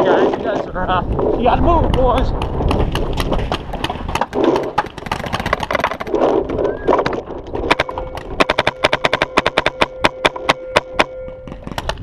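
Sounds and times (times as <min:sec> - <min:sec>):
paintball markers firing: 0:01.8 - 0:12.0.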